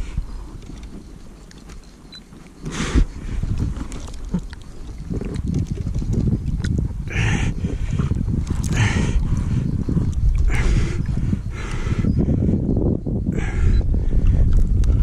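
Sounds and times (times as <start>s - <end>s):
wind buffeting microphone: 0.0s - 1.5s, 2.1s - 15.0s
handling rumble: 2.7s - 15.0s.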